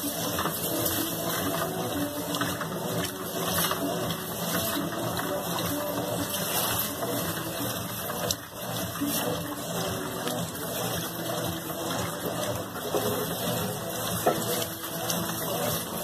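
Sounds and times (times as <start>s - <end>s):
washing machine motor hum: 0.0s - 16.0s
water sloshing and churning: 0.0s - 16.0s.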